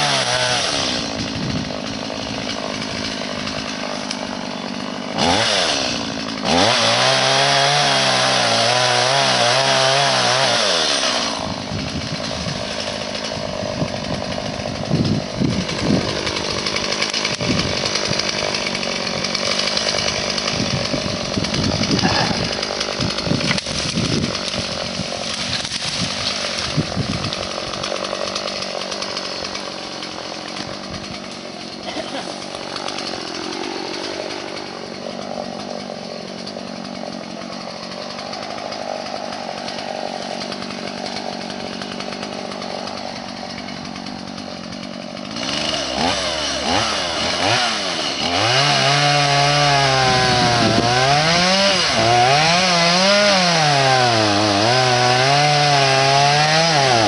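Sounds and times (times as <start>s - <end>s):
chainsaw running and revving: 0.0s - 57.0s.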